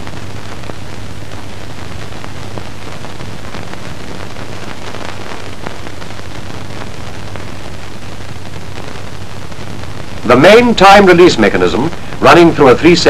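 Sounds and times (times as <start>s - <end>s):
faint crackles: 0.0s - 13.0s
film soundtrack hiss: 0.0s - 13.0s.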